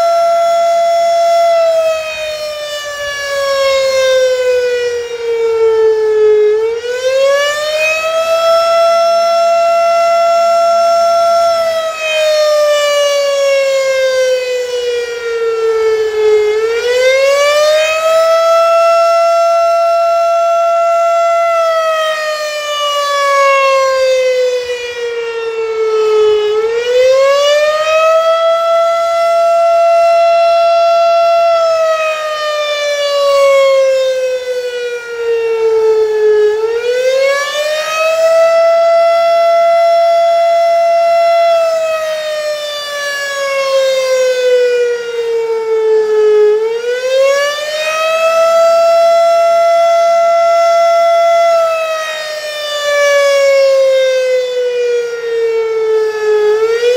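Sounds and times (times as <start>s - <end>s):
rising and falling warning siren: 0.0s - 56.9s.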